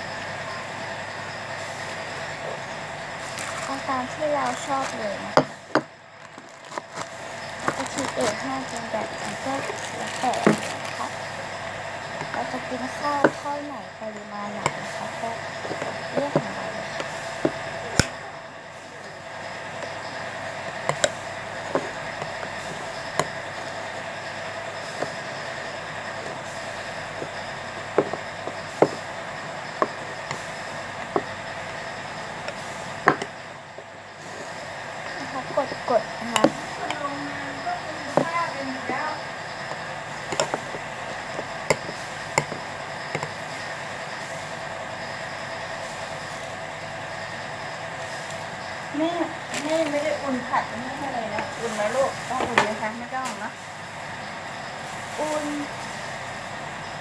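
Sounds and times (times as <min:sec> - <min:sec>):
background hum: 0:00.0 - 0:57.0.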